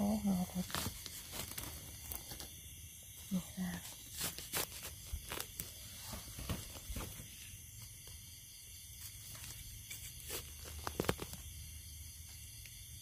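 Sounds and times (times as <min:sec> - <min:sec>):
dry leaves and twigs rustling: 0:00.1 - 0:11.7.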